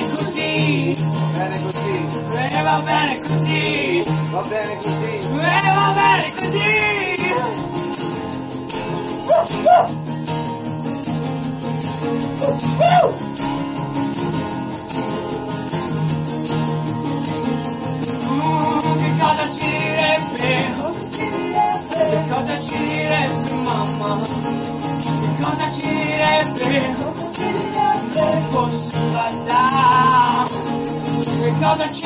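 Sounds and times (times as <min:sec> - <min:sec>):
acoustic guitars strumming: 0:00.0 - 0:32.0
hand shaker jingling: 0:00.0 - 0:32.0.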